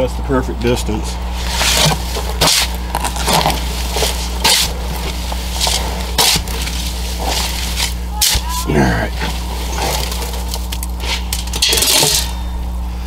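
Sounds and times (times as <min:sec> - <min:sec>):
shovel scraping gritty mix in metal drum: 0:01.3 - 0:12.6.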